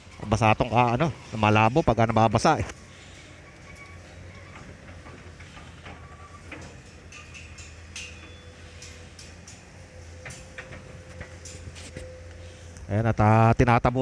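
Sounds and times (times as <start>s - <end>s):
excavator engine hum: 0.0s - 13.5s.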